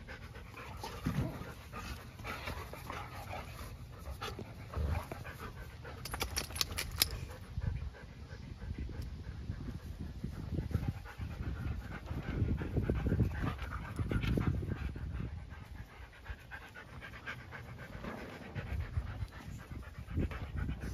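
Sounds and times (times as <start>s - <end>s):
dog panting: 0.0s - 20.9s.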